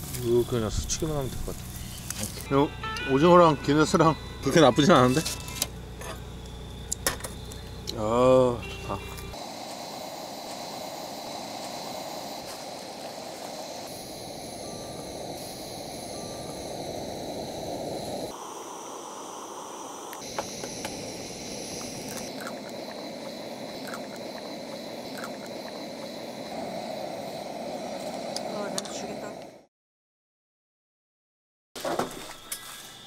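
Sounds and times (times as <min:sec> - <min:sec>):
camp stove hissing: 0:00.0 - 0:29.7.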